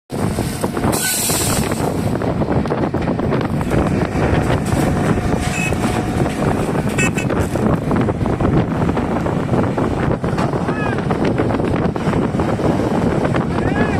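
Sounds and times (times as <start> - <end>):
excavator engine running: 0.1 - 13.6
wind rumbling on microphone: 0.1 - 13.9.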